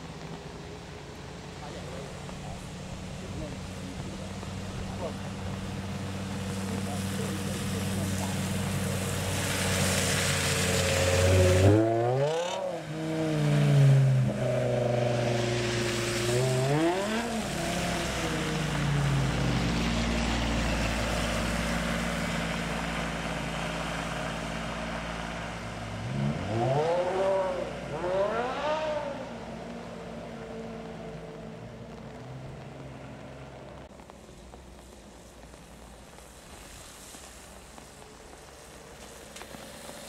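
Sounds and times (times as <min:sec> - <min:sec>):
car engines revving: 0:00.0 - 0:34.0
tyres hissing on wet road: 0:00.0 - 0:40.0.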